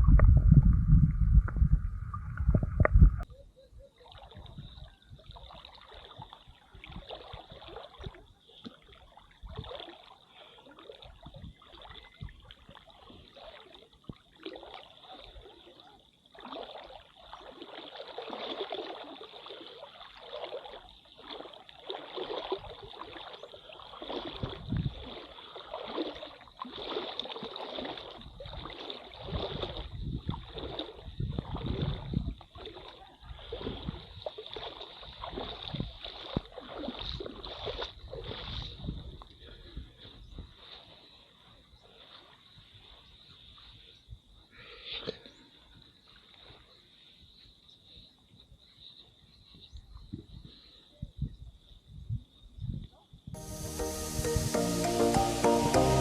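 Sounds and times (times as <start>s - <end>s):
water sloshing and splashing: 0.0s - 3.3s, 3.9s - 44.0s, 45.5s - 47.1s.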